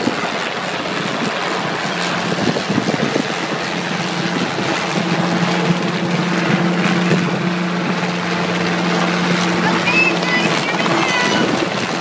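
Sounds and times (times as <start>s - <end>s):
helicopter hovering drone: 0.0s - 12.0s.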